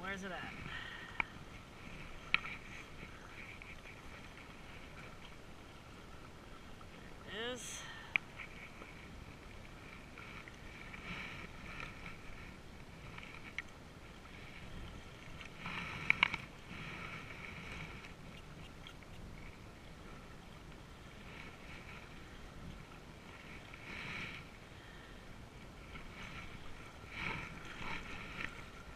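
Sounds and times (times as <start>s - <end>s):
waves lapping on rocky shore: 0.0s - 28.9s.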